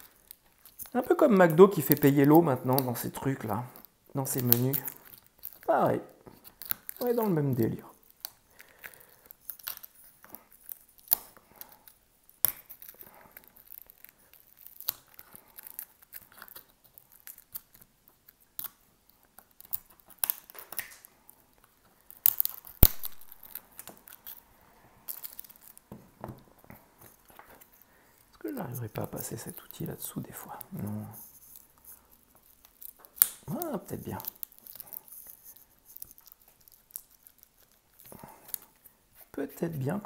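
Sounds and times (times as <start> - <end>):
plastic film crinkling: 0.0 - 40.0.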